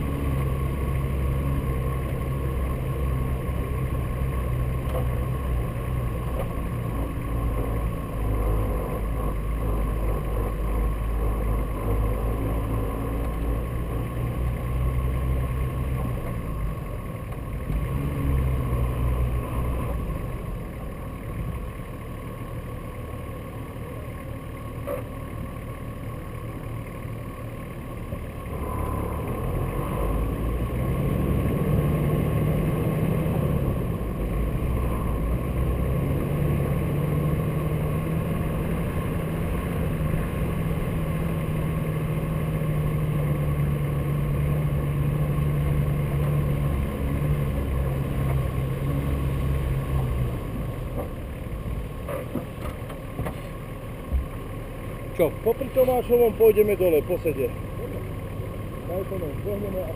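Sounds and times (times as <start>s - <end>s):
car engine running: 0.0s - 59.9s
wind: 0.0s - 59.9s.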